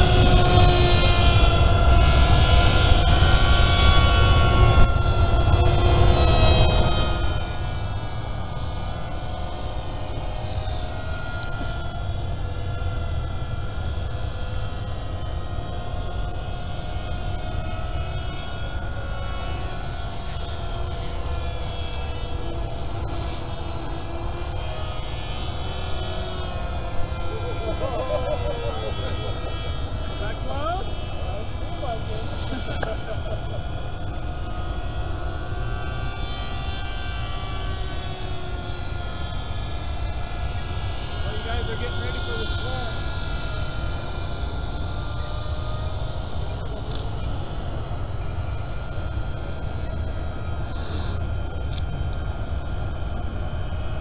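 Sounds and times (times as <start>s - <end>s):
low rumble: 0.0s - 54.0s
model airplane motors whining: 0.0s - 54.0s.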